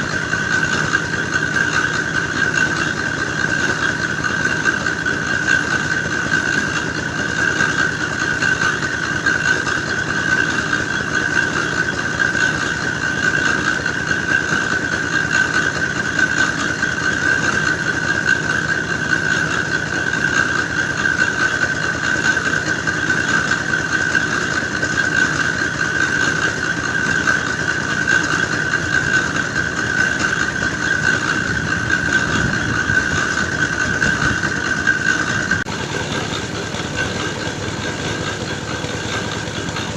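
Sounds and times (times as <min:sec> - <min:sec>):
clay grinding machine engine: 0:00.0 - 0:39.9
high-pitched machine squeal: 0:00.0 - 0:39.9.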